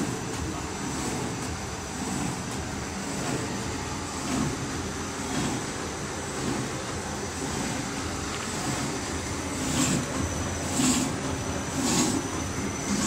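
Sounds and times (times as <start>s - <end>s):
paper sheeting machine running: 0.0s - 13.0s.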